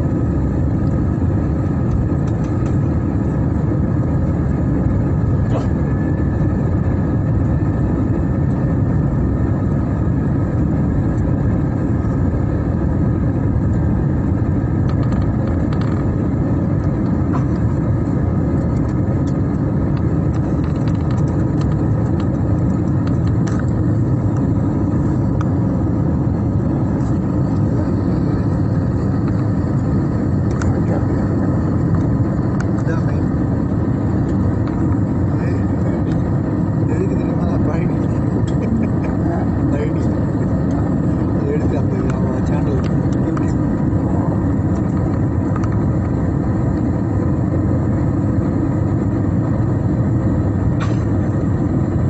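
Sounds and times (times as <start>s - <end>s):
airliner cabin rumble: 0.0s - 52.0s
faint steady whine: 0.0s - 52.0s.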